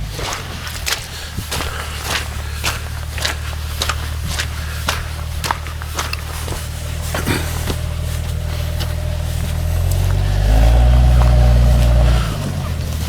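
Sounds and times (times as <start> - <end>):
car engine under load: 0.0 - 13.0.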